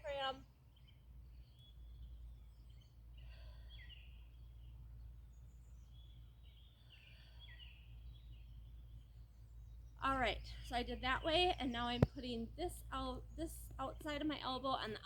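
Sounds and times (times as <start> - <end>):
faint birdsong chirping: 0.0 - 15.0
low steady rumble: 0.0 - 15.0.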